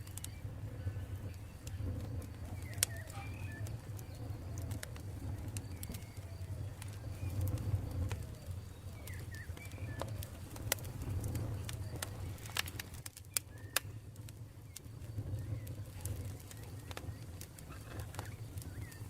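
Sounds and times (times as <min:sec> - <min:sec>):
birds calling: 0:00.0 - 0:19.0
campfire crackling: 0:00.0 - 0:19.0.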